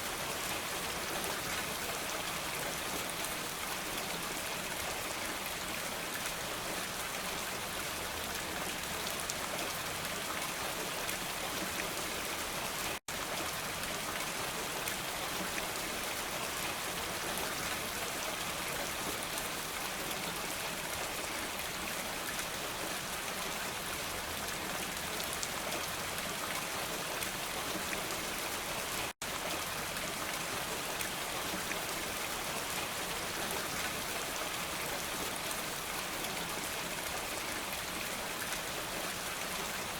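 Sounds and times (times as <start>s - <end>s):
steady dense rain: 0.0s - 39.9s.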